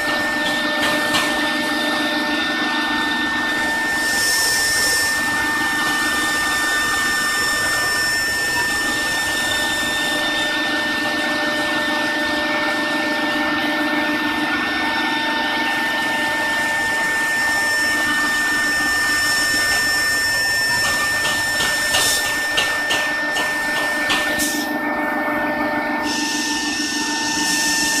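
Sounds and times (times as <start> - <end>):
hiss of air and machining: 0.0 - 11.8, 15.8 - 24.8, 26.0 - 28.0
router spindle motor whine: 0.0 - 28.0.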